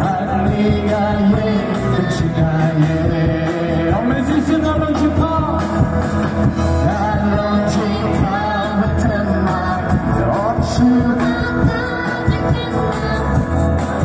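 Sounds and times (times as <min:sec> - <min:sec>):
gospel band over loudspeakers: 0:00.0 - 0:14.0.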